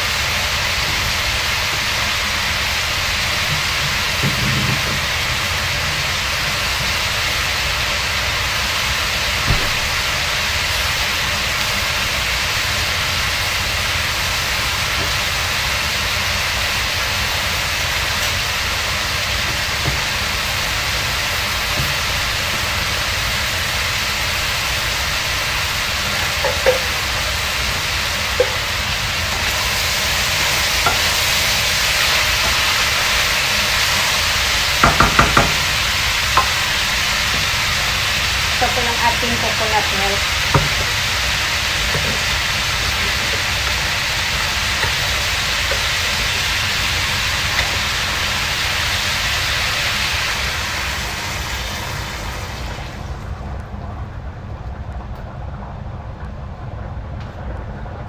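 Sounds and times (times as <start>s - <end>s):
vegetables sizzling in frying pan: 0.0s - 53.3s.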